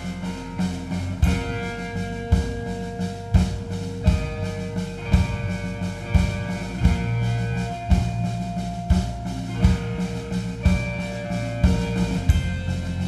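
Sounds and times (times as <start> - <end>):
heavy drum hits: 0.0 - 13.0
live band playing: 0.0 - 13.0.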